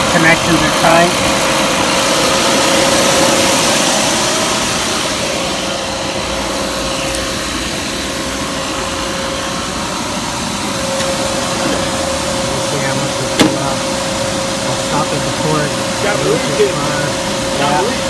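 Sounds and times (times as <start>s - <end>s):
machine whirring and humming: 0.0s - 18.0s.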